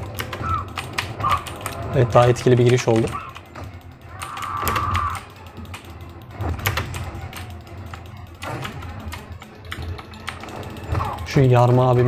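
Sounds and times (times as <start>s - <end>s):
keyboard and mouse clicks: 0.0s - 11.3s
background game audio: 0.0s - 12.0s.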